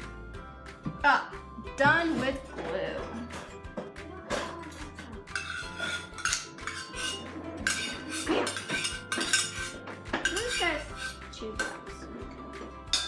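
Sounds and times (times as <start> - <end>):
kitchen utensils clinking and clattering: 1.8 - 13.0.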